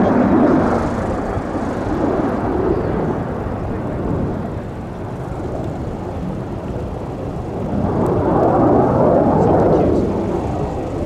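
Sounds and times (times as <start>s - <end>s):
jet aircraft rumble: 0.0s - 11.0s.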